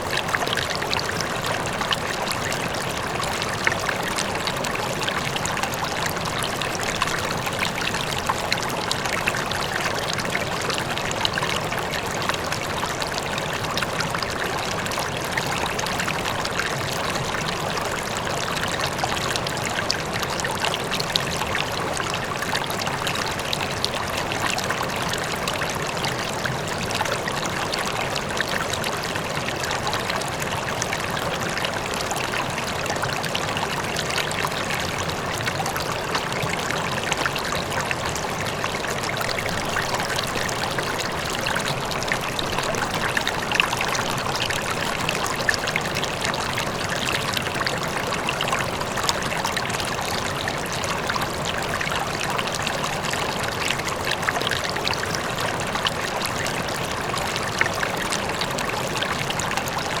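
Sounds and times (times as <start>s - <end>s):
faint waterfall rush: 0.0s - 60.0s
river water flowing: 0.0s - 60.0s
water babbling and splashing: 0.0s - 60.0s.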